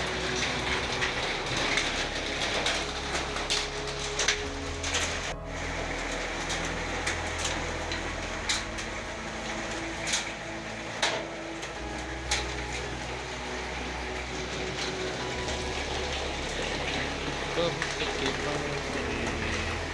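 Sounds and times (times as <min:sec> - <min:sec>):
hailstones striking: 0:00.0 - 0:19.9
rain hissing: 0:00.0 - 0:19.9.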